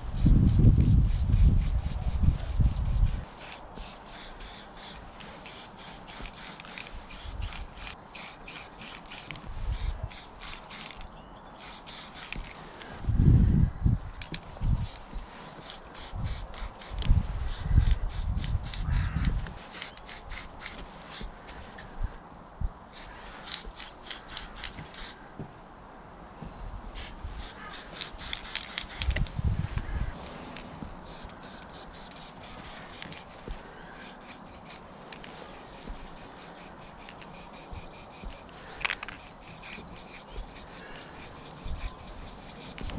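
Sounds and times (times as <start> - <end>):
rubbing and scraping on painting surface: 0.0 - 11.0, 11.6 - 13.1, 14.4 - 21.8, 22.9 - 25.2, 27.0 - 29.8, 31.1 - 42.9.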